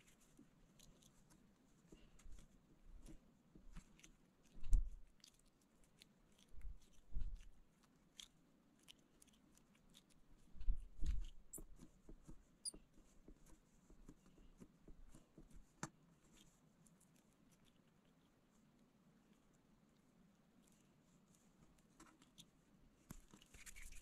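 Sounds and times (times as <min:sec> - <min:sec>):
clay squishing: 0:00.0 - 0:24.0.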